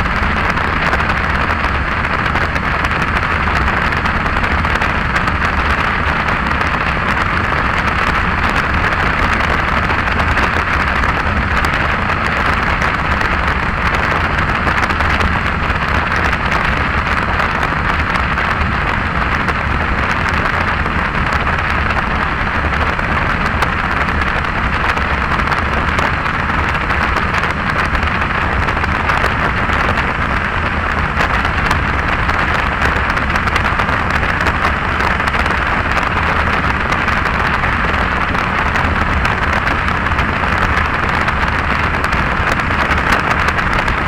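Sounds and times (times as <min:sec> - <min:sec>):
low rumble: 0:00.0 - 0:44.0
wind buffeting microphone: 0:00.0 - 0:44.0.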